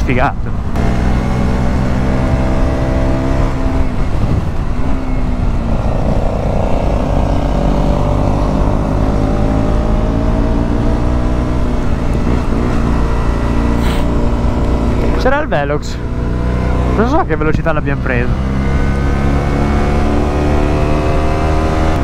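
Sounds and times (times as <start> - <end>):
motorcycle engine: 0.4 - 22.0.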